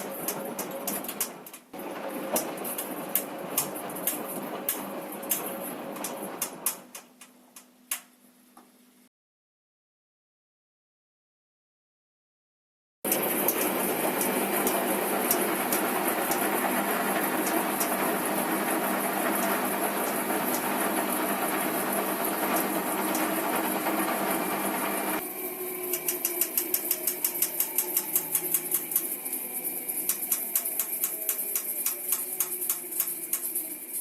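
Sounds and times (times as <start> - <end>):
washing machine spinning: 0.0 - 7.6, 13.1 - 34.0.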